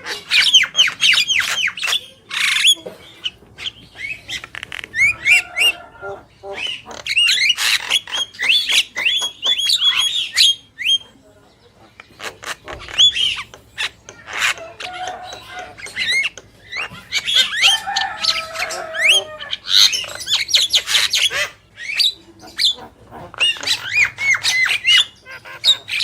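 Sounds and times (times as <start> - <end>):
birds calling with clicks and whistles: 0.0 - 26.0.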